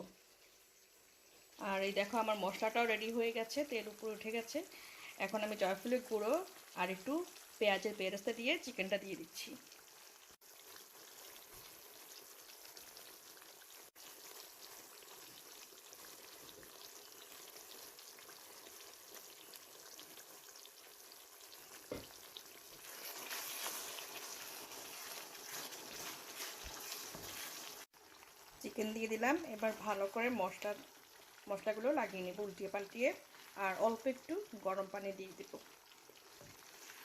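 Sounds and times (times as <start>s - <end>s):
paste sizzling in a pan: 0.0s - 37.0s.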